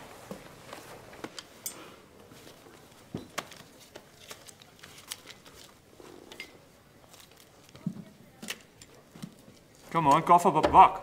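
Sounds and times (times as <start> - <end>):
soft rustling: 0.0 - 10.0.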